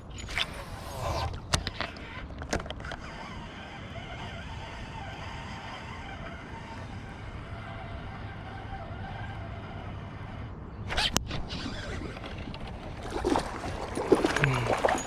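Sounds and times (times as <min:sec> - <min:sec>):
fishing line zipping: 0:00.0 - 0:15.0.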